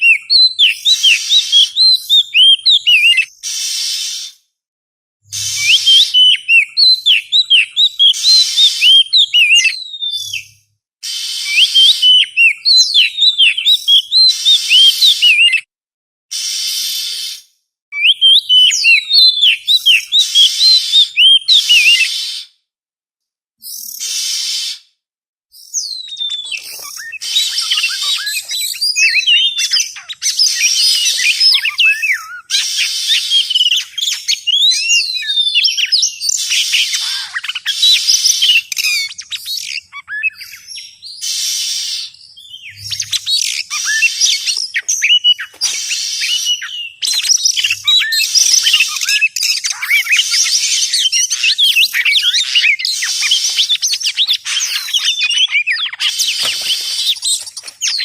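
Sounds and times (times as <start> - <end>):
bird singing whistles and chirps: 0.0 - 4.4, 5.4 - 15.7, 16.4 - 22.5, 25.5 - 58.0.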